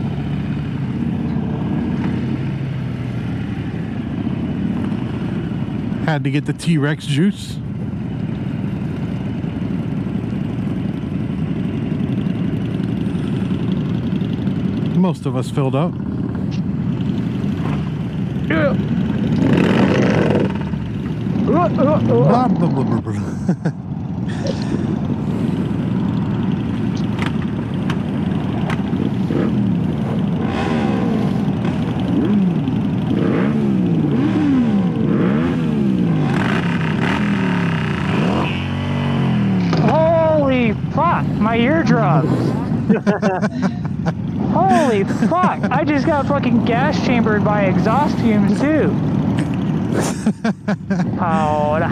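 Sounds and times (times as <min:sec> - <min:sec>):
motorcycle engine idling: 0:07.6 - 0:22.4, 0:23.2 - 0:51.9.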